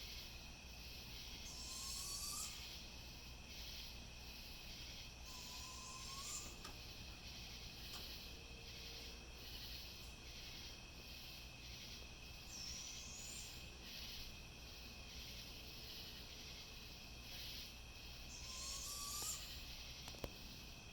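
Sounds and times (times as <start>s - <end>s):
pulsing high insect buzz: 0.0s - 20.9s.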